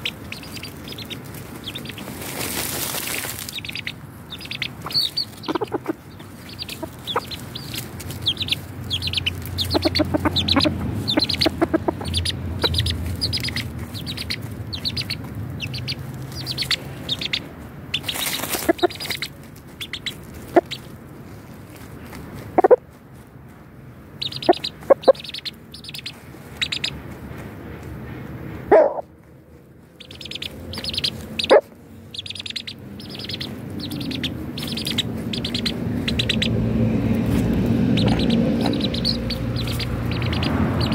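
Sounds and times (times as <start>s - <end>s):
chickens clucking: 0.0s - 21.0s, 21.8s - 22.8s, 24.1s - 29.1s, 29.9s - 40.9s
birds rustling in dry leaves: 0.0s - 40.9s.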